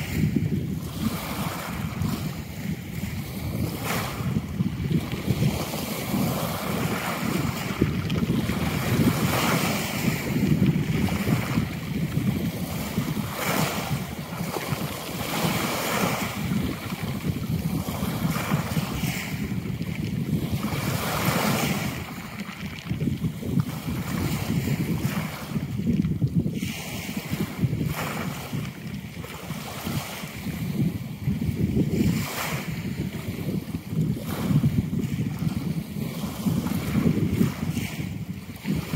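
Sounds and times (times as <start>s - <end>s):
sea waves washing on shore: 0.0s - 38.9s
wind buffeting microphone: 0.0s - 38.9s.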